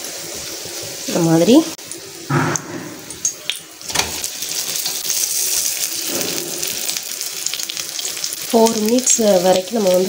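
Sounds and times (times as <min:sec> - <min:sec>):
batter sizzling in oil: 0:00.0 - 0:02.3, 0:03.2 - 0:10.0.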